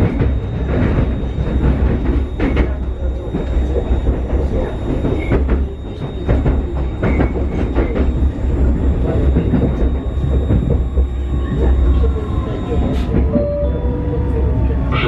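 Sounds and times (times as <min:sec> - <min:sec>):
knocks clicks and rattles: 0:00.0 - 0:13.4
train cabin low rumble: 0:00.0 - 0:15.0.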